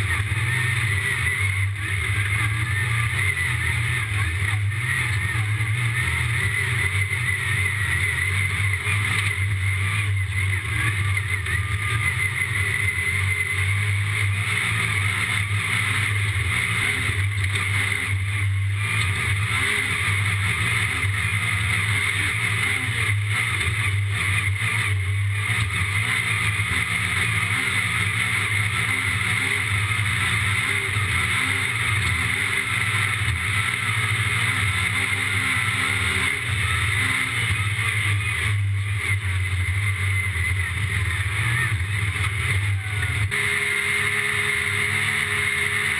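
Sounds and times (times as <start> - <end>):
vehicle engine running at speed: 0.0 - 45.9.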